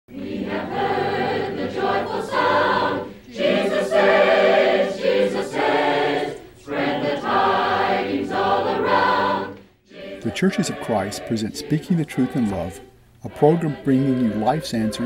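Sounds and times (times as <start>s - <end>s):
choir singing unaccompanied: 0.1s - 15.0s.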